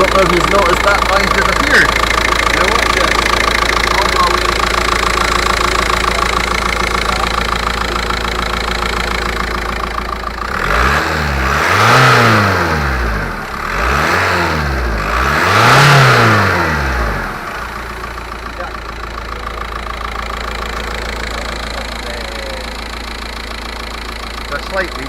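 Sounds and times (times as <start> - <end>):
diesel engine idling and revving: 0.0 - 25.0.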